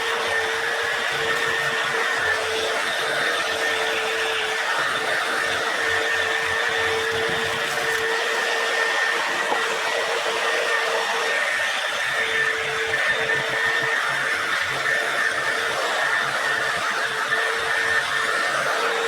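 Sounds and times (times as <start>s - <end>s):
small electric motor tool whining: 0.0s - 19.0s.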